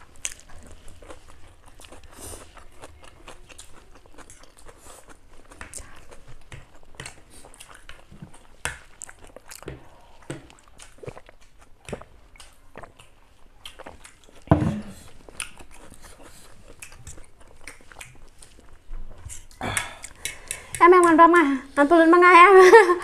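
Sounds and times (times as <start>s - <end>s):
people slurping and chewing: 0.0s - 23.0s.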